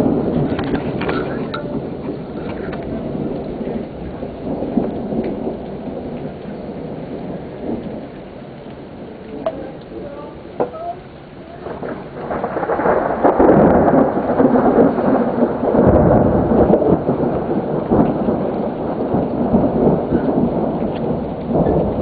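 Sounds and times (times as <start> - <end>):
rolling thunder: 0.0 - 22.0
steady rain: 0.0 - 22.0.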